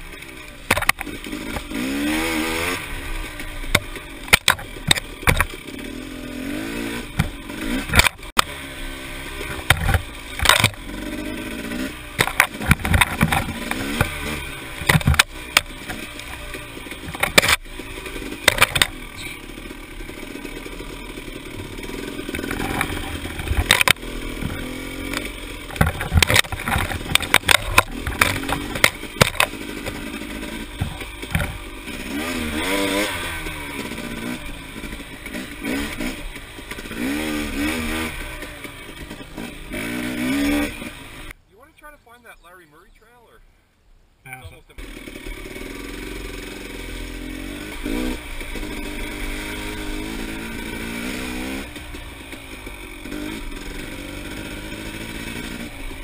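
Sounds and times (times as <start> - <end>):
dirt bike engine revving: 0.0 - 42.6, 44.3 - 56.0
knocks and scrapes on bike: 0.1 - 41.4, 45.0 - 56.0.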